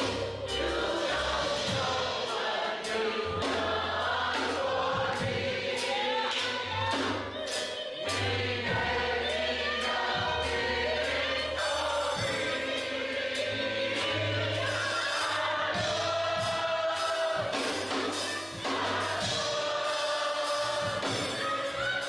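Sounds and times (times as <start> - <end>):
bass and drums: 0.0 - 22.0
gospel choir singing: 0.0 - 22.0.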